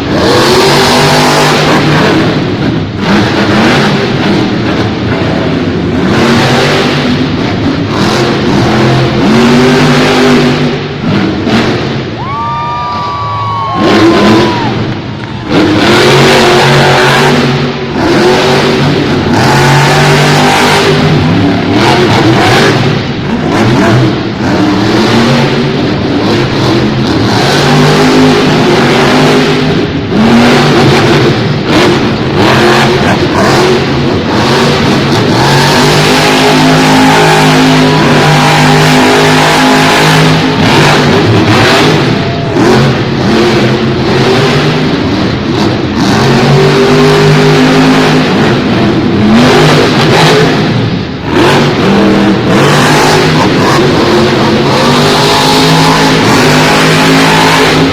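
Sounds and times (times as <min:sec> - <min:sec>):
monster truck engine revving: 0:00.0 - 0:57.9.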